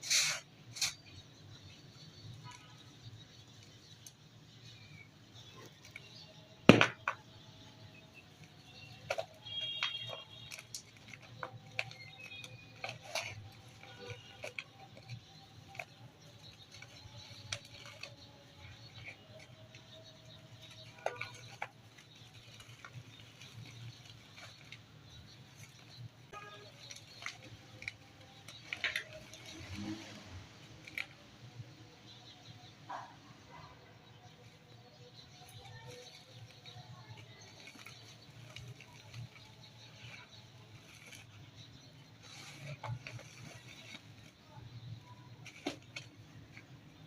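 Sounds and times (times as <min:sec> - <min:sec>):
dry dirt crumbling: 0:00.9 - 0:31.2, 0:34.6 - 0:47.0.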